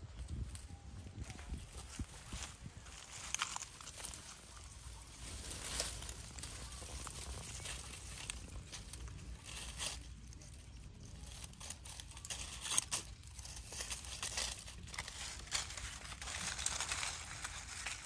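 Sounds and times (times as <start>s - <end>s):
dry leaves and twigs crackling: 0.0s - 18.0s.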